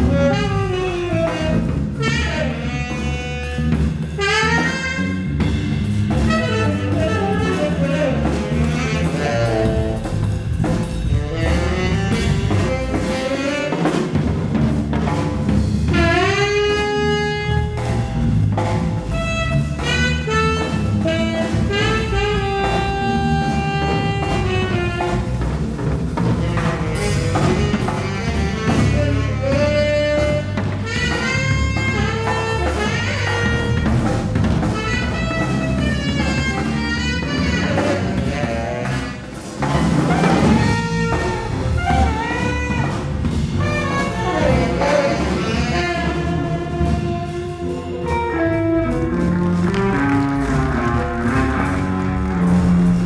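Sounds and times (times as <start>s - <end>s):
drum kit: 0.0s - 53.0s
electric bass: 0.0s - 53.0s
saxophone solo: 0.0s - 53.0s.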